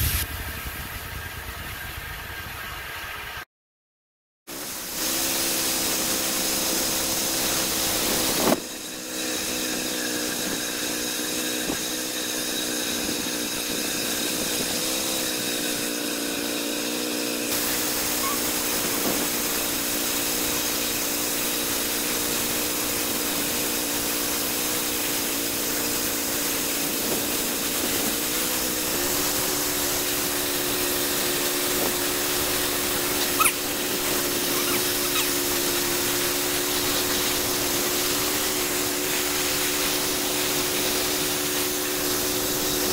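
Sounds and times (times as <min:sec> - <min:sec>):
saw blade hissing through log: 0:04.5 - 0:42.9
small gasoline engine under load: 0:04.5 - 0:42.9.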